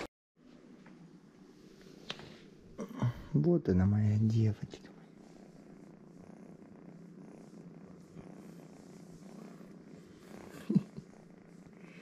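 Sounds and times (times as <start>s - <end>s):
pet purring: 2.0s - 12.0s.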